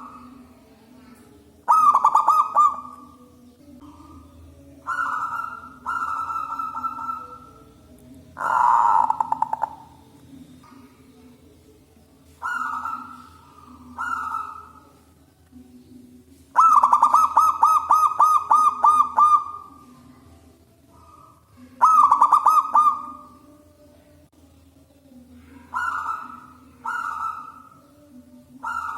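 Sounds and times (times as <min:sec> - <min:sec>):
dove cooing: 0:00.0 - 0:11.1, 0:12.3 - 0:15.1, 0:16.5 - 0:20.3, 0:20.9 - 0:23.5, 0:25.4 - 0:28.9.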